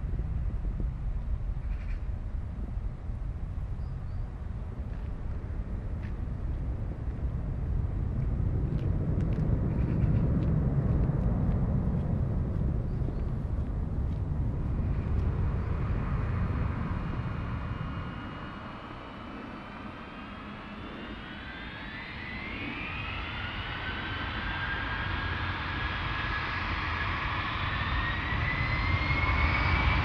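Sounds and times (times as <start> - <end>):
high engine whine: 0.0 - 30.0
jet engines deep rumble: 0.0 - 30.0.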